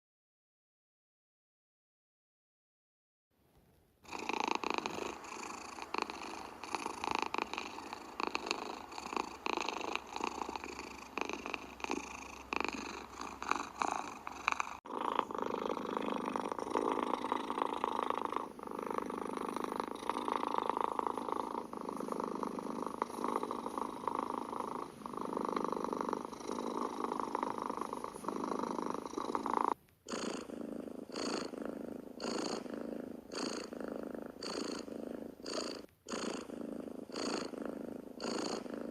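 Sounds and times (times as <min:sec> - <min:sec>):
cat purring: 0:04.0 - 0:38.9.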